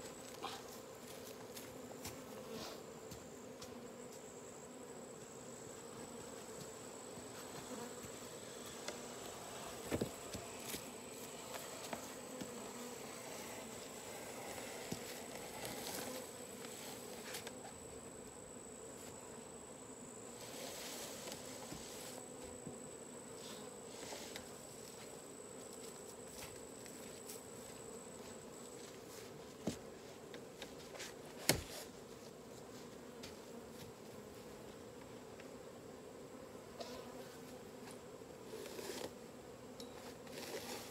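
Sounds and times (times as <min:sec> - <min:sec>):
bee swarm buzzing: 0:00.0 - 0:40.9.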